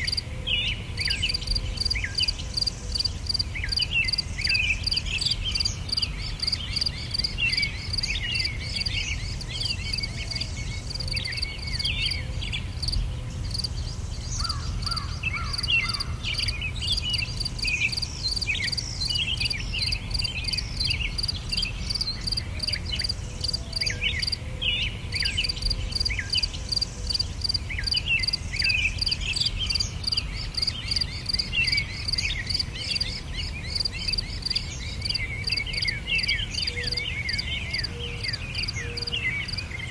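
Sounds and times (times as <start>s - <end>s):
insects trilling: 0.0s - 24.5s, 25.1s - 39.9s
birds chirping: 0.0s - 39.9s.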